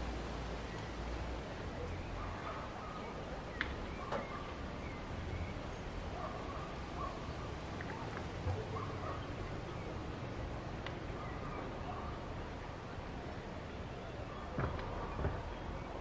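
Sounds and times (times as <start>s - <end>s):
birds calling: 0.6s - 16.0s.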